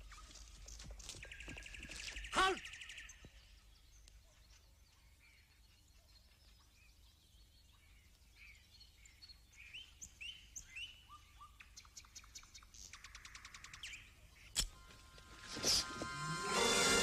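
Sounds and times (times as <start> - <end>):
faint birdsong chirps and whistles: 0.0 - 16.0.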